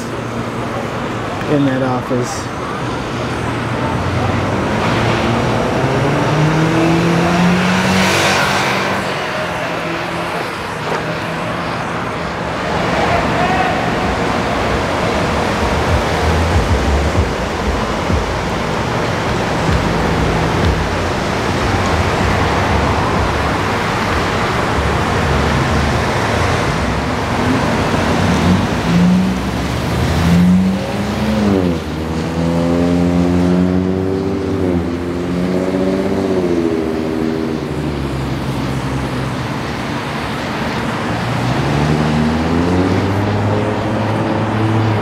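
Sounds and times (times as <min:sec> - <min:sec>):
car engines accelerating: 0:00.0 - 0:45.0.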